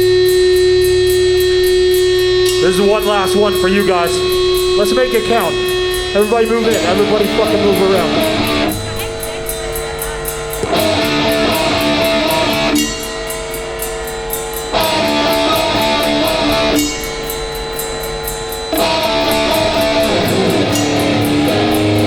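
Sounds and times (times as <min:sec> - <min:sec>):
distorted electric guitar riff: 0:00.0 - 0:13.8, 0:14.6 - 0:17.8, 0:18.6 - 0:22.0
steady drum beat: 0:00.0 - 0:22.0.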